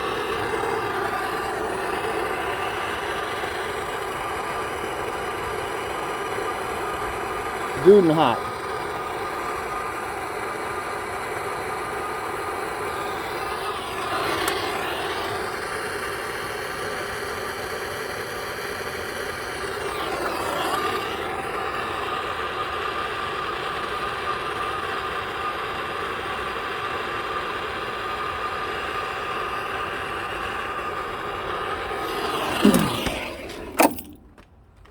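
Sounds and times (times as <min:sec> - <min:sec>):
gas torch flame rushing: 0:00.0 - 0:34.5.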